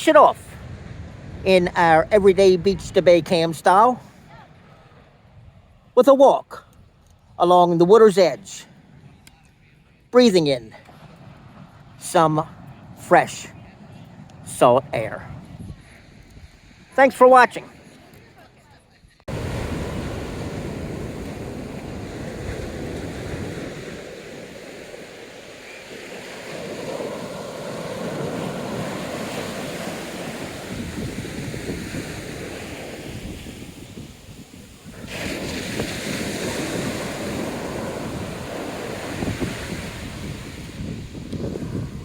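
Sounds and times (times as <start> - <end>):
wind buffeting microphone: 0.0 - 6.0, 10.7 - 42.0
ocean surf breaking: 0.0 - 6.7, 7.4 - 9.2, 10.0 - 18.6, 19.3 - 42.0.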